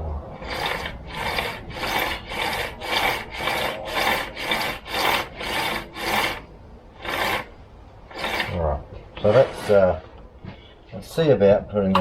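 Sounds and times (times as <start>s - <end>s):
hand tool scraping: 0.4s - 10.7s.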